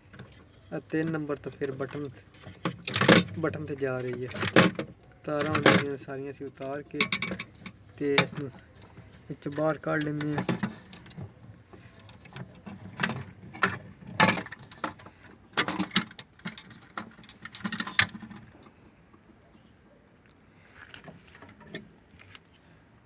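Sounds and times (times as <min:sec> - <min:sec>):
plastic and metal clatter: 0:00.0 - 0:18.8, 0:20.8 - 0:22.4.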